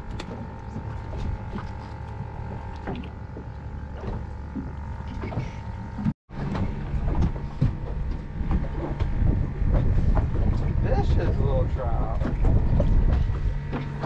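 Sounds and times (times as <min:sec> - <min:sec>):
wind and water rushing: 0:00.0 - 0:14.0.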